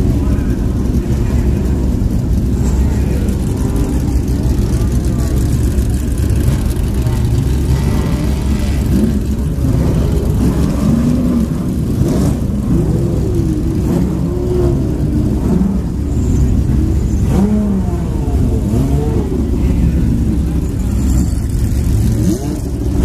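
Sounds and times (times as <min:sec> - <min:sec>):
racing car engine revving: 0:00.0 - 0:23.0.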